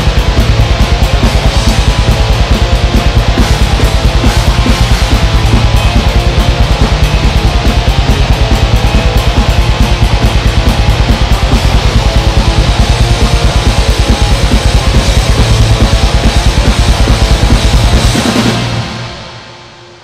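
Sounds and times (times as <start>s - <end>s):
distorted guitars: 0.0s - 20.0s
fast drums: 0.0s - 20.0s.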